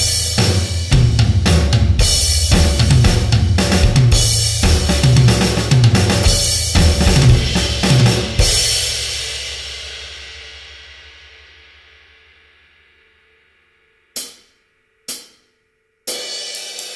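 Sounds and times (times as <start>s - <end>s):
drum kit groove: 0.0s - 11.6s, 14.2s - 15.5s, 16.1s - 16.9s.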